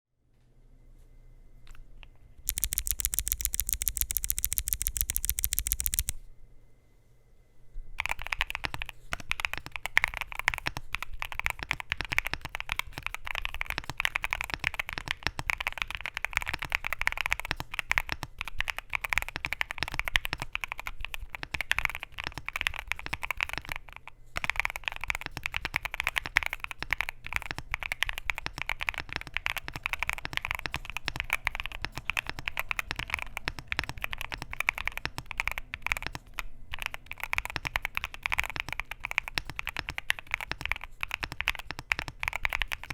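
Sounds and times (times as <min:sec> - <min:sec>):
fast typing on mechanical keyboard: 0:02.5 - 0:06.2, 0:08.0 - 0:42.9.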